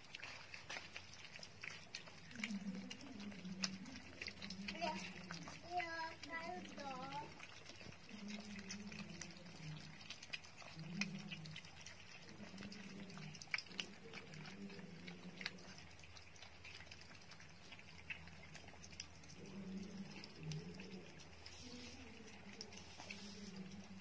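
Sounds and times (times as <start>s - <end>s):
puppies chewing and lapping: 0.0s - 24.0s.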